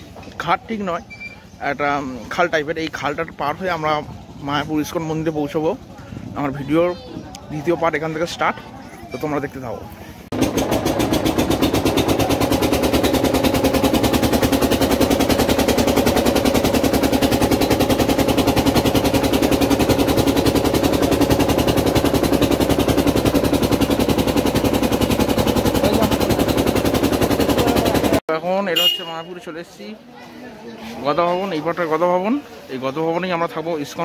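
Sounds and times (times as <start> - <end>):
ferry engine chugging: 0.0 - 28.2.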